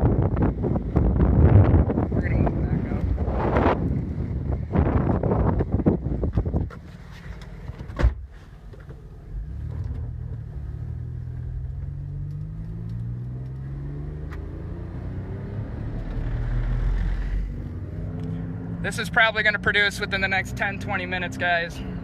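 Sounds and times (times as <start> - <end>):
car engine accelerating: 0.0 - 8.0, 8.7 - 22.0.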